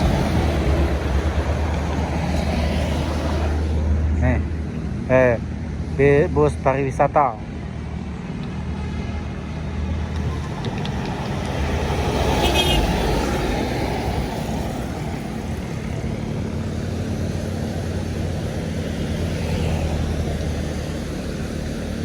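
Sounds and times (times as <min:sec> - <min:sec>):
bus driving past: 0:00.0 - 0:22.0
road traffic noise: 0:00.0 - 0:22.0.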